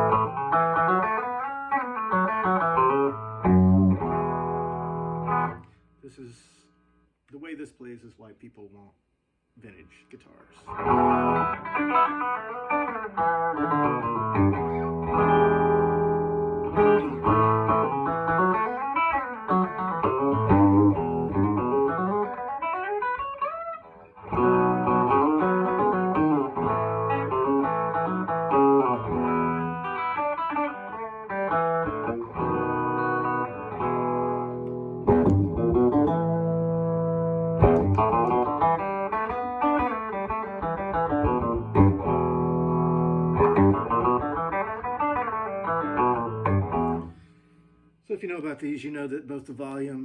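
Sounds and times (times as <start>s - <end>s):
electric guitar chords and slides: 0.0s - 5.7s, 10.7s - 47.3s.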